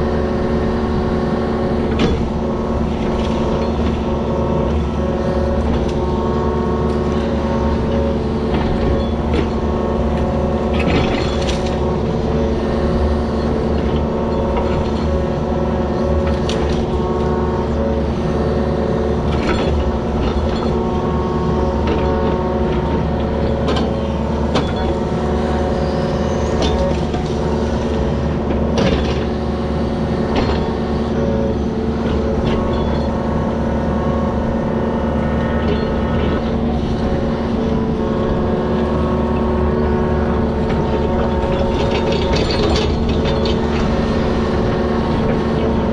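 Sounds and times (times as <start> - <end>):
digger engine running: 0.0 - 45.9.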